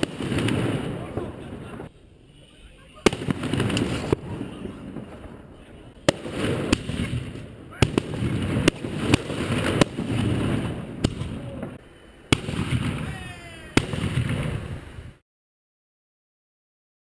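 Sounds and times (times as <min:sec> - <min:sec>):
fireworks bangs: 0:00.0 - 0:15.2
fireworks crackle and rumble: 0:00.0 - 0:15.2.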